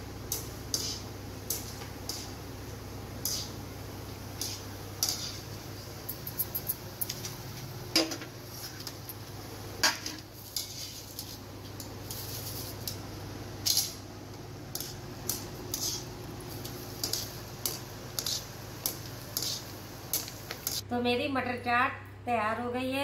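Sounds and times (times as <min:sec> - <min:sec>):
oil sizzling in bursts: 0:00.0 - 0:20.8
steady low hum: 0:00.0 - 0:21.4.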